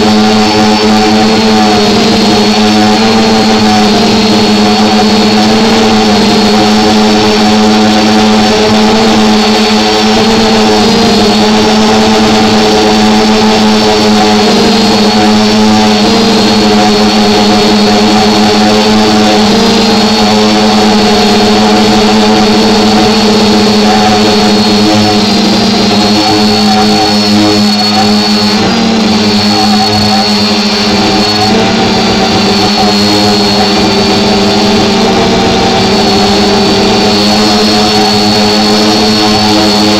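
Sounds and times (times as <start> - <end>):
drone motors humming: 0.0 - 39.9
propeller high whine: 0.0 - 39.9.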